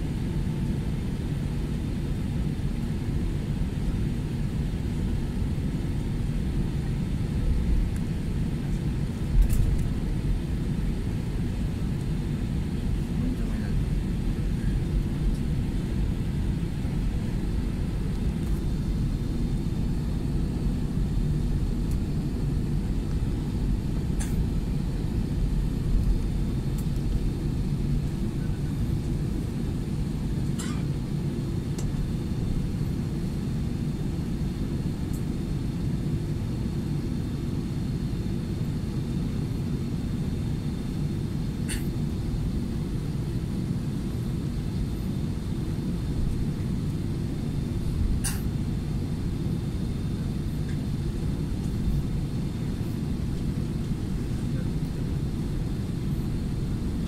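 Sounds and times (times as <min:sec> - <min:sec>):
airplane cabin low rumble: 0:00.0 - 0:57.0.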